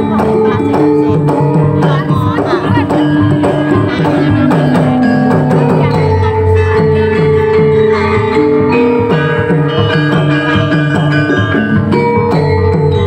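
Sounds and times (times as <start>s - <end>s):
gamelan metallophones ringing: 0.0s - 13.0s
hand drum strokes: 0.0s - 13.0s.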